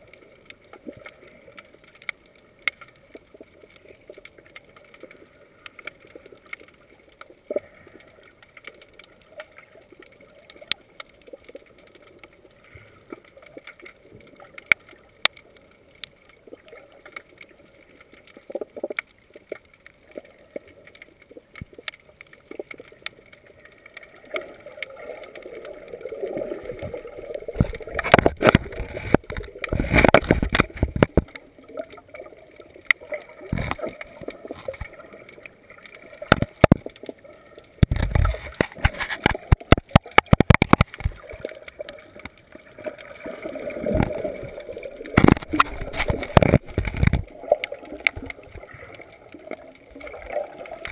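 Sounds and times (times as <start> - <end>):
underwater churning rush: 0.0 - 50.9
underwater clicks: 0.0 - 50.9.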